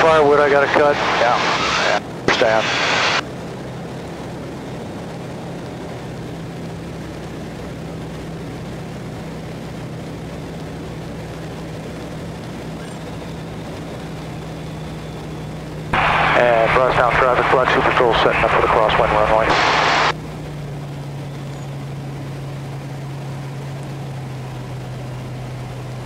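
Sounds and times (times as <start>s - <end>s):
aircraft engine drone in cockpit: 0.0s - 26.0s.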